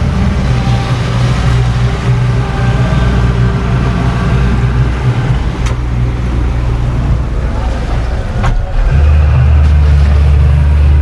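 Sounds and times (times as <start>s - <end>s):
motorboat engine running: 0.0s - 11.0s
water wash: 0.0s - 11.0s.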